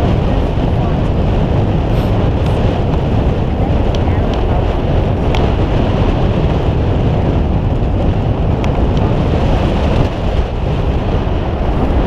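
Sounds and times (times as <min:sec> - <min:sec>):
boat and water noise: 0:00.0 - 0:12.0
wind buffeting microphone: 0:00.0 - 0:12.0.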